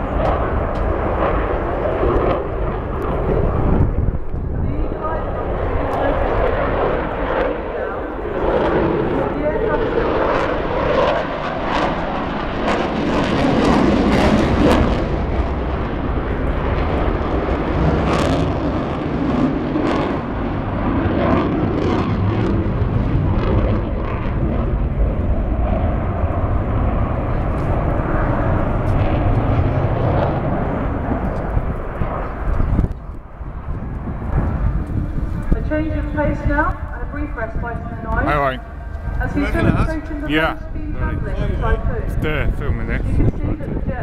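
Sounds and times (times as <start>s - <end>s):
jet engines with crackles: 0.0s - 44.0s.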